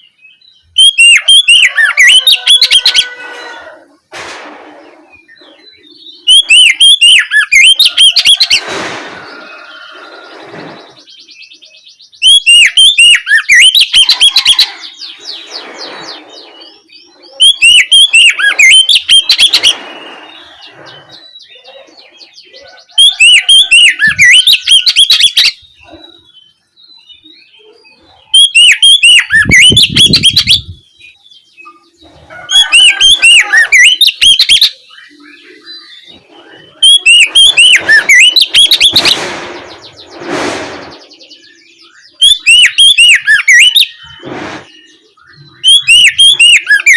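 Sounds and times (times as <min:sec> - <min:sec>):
bird singing whistled notes: 0:00.0 - 0:02.9, 0:05.0 - 0:08.6, 0:09.2 - 0:46.9.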